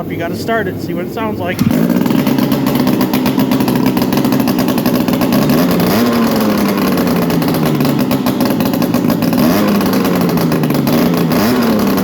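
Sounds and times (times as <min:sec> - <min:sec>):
engine idling without exhaust: 0:00.0 - 0:12.0.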